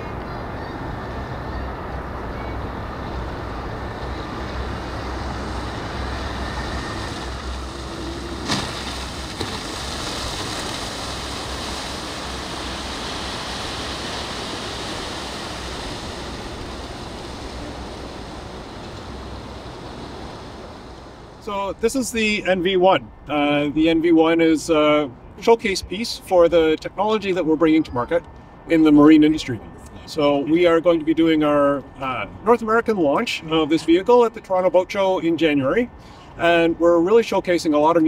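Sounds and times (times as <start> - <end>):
wind and water rushing: 0.0 - 38.0.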